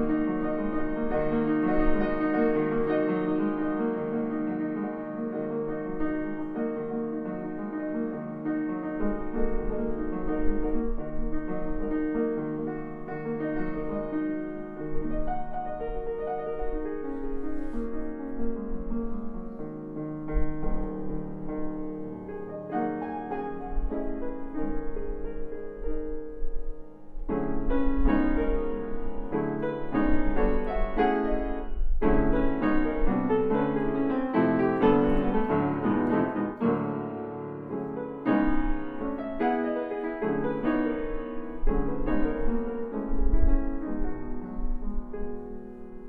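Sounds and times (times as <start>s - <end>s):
grand piano playing chords: 0.0s - 46.0s.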